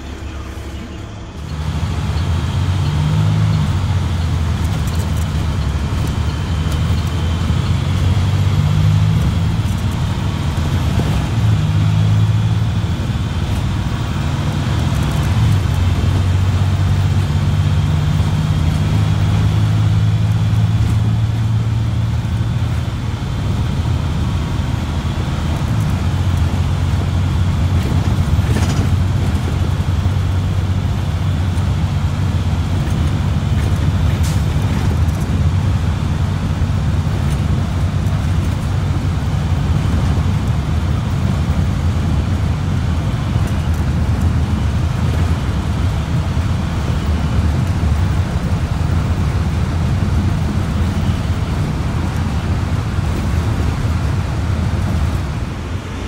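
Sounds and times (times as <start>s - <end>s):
bus engine droning: 0.0s - 56.0s
road noise: 0.0s - 56.0s.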